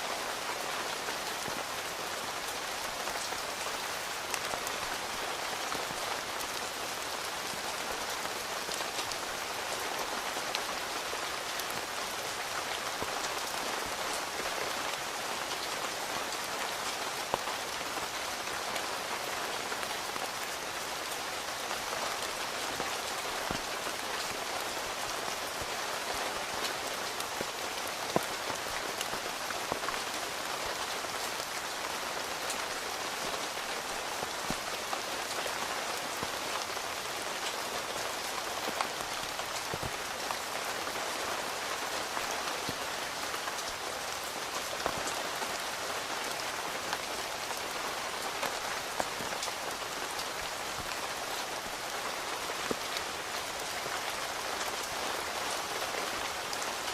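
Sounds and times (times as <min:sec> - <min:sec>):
rain falling on a tent: 0:00.0 - 0:56.9.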